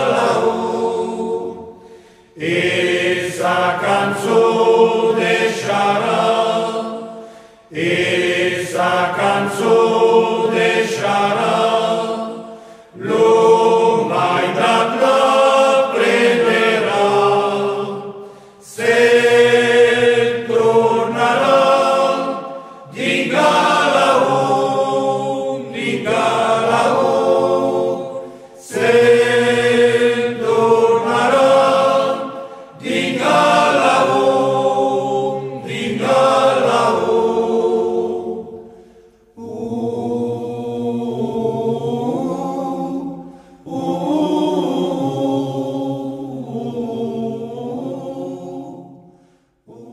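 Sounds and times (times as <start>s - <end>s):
choir singing: 0.0s - 49.9s.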